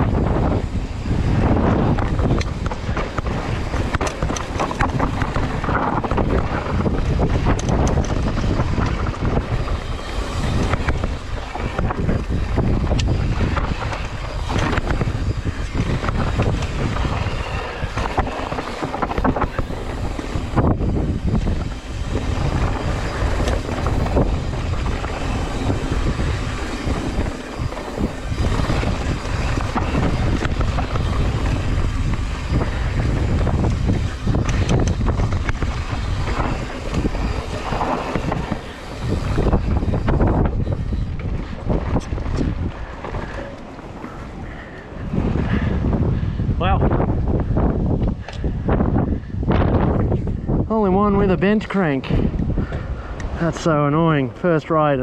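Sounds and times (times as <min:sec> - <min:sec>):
bike rattling and clacking: 0:00.0 - 0:46.0
tyres rumbling over dirt and rock: 0:00.0 - 0:46.1
wind buffeting microphone: 0:00.0 - 0:55.0.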